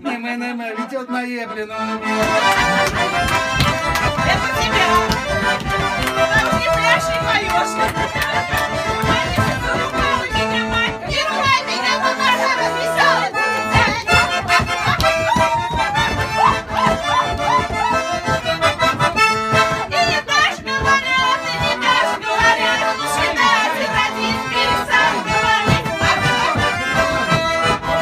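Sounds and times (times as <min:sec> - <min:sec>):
button accordion dance tune: 0:00.0 - 0:28.0.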